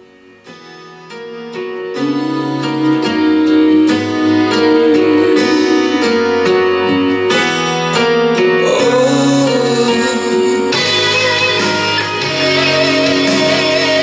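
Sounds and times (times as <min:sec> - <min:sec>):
song through portable speaker: 0:00.0 - 0:14.0.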